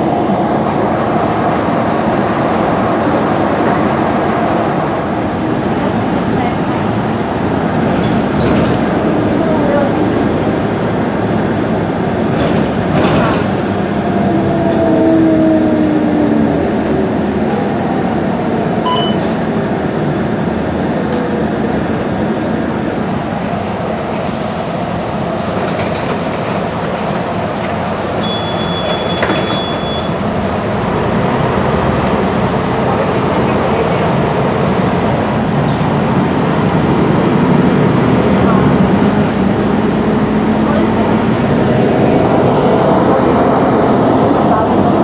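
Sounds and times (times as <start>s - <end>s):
bus interior engine and road noise: 0.0s - 45.0s.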